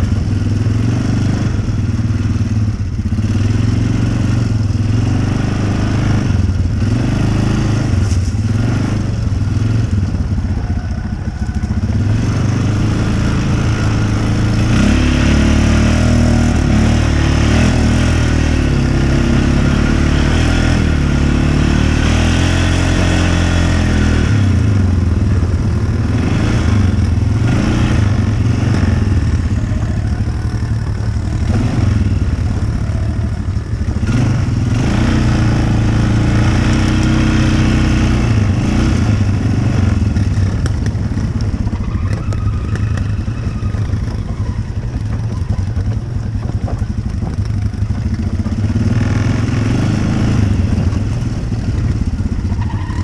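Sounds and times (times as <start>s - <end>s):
engine revving: 0.0s - 53.0s.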